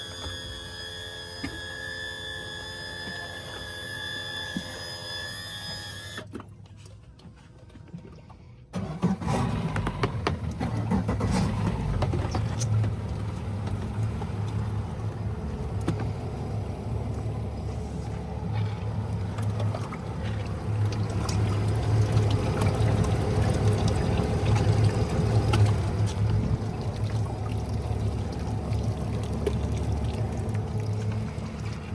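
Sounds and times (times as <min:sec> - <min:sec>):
outboard engines droning: 0:00.0 - 0:06.5, 0:07.1 - 0:31.9.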